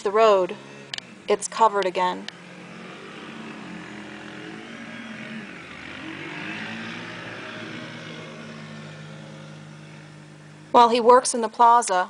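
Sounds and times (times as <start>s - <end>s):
vehicle engine running: 0.0s - 12.0s
broad rushing noise: 0.5s - 10.9s.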